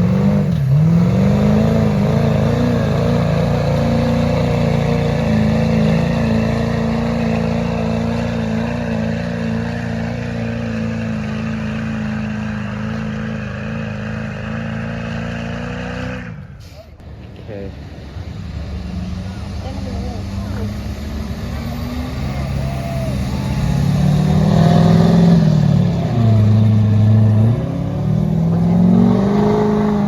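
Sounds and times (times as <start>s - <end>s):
vehicle engine at full throttle: 0.0s - 30.0s.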